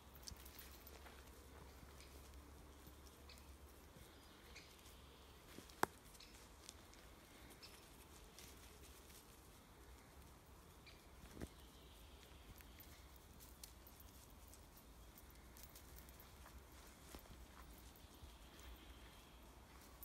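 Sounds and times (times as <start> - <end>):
soft ticks and crackles: 0.0 - 20.0.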